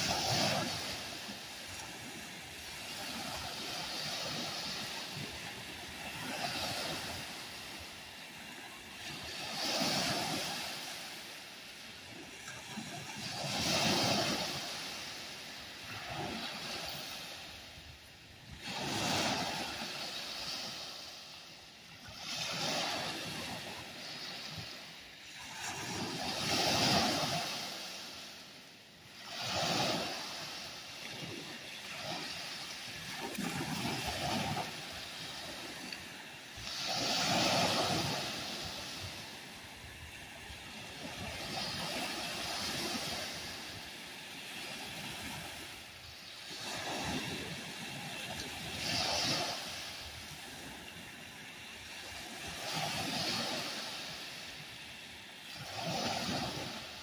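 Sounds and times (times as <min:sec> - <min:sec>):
small waves breaking on beach: 0:00.0 - 0:57.0.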